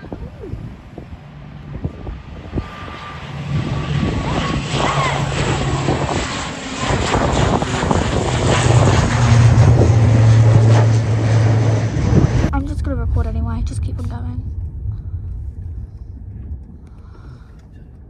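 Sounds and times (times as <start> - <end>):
airliner engines droning: 0.0 - 18.0.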